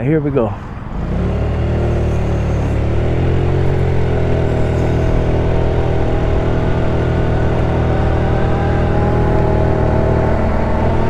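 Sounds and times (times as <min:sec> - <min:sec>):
scooter engine pulling away: 0:00.9 - 0:11.0.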